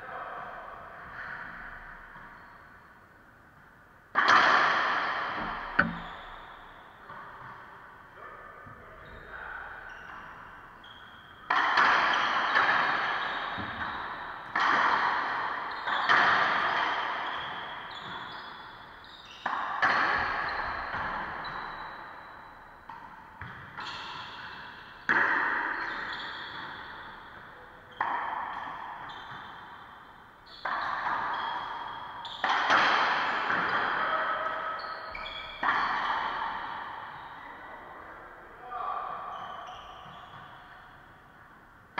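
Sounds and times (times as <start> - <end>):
racquetball strikes echoing: 4.1 - 41.8.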